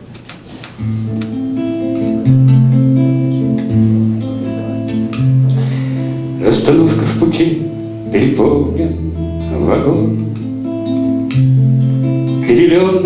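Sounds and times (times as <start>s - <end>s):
acoustic guitar picked chords: 0.8s - 13.0s.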